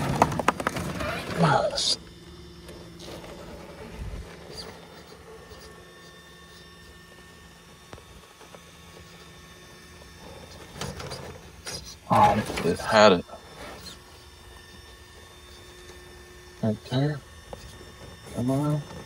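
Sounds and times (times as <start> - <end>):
toy car electric motor whining: 0.0 - 19.0.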